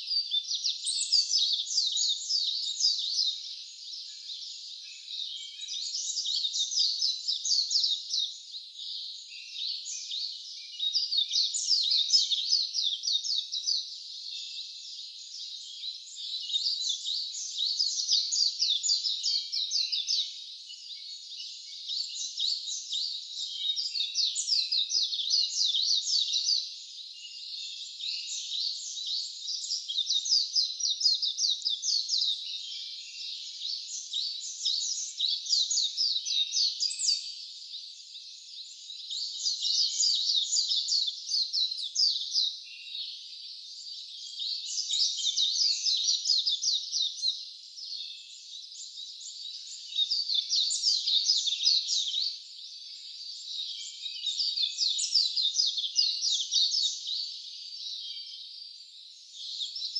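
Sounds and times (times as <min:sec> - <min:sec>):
wild birds singing: 0:00.0 - 0:59.9.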